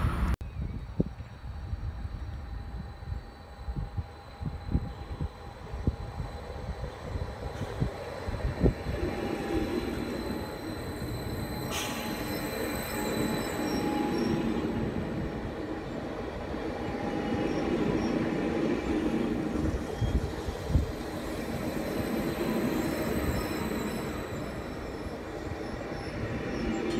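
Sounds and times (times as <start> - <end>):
train drive whine: 0.0 - 26.9
electric train rumbling past: 1.2 - 26.9.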